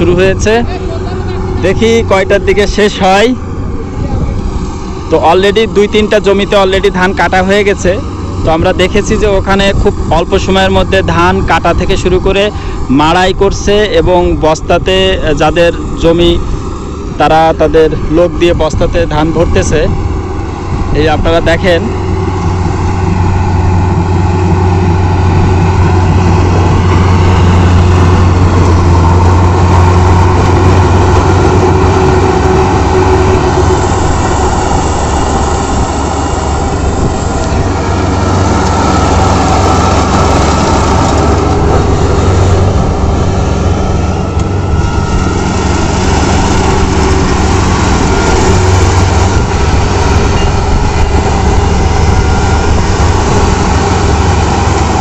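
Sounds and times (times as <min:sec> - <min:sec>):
combine harvester engine hum: 0:00.0 - 0:55.0.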